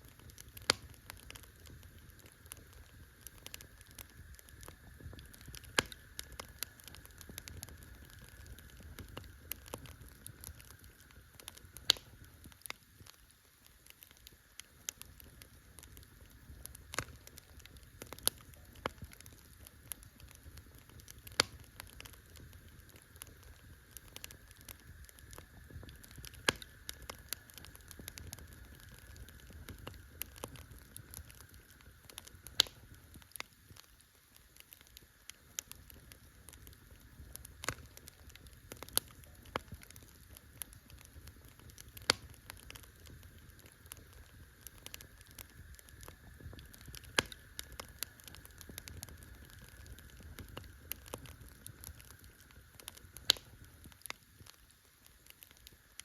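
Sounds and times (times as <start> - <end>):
campfire crackling: 0.0 - 56.0
sharp pops of fire: 0.0 - 56.0.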